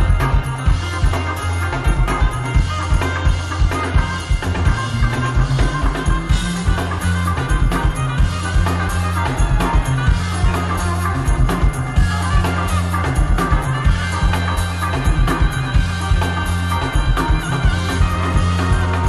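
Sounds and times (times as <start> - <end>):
drum kit steady beat: 0.0 - 19.0
funk band playing: 0.0 - 19.0.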